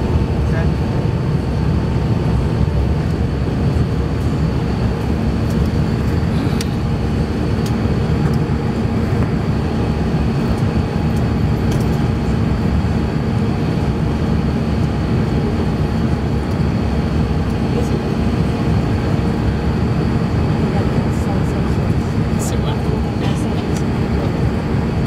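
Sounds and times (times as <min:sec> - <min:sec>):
air rushing along fuselage: 0:00.0 - 0:25.0
jet engines at climb power: 0:00.0 - 0:25.0
steady hum tones: 0:00.0 - 0:25.0.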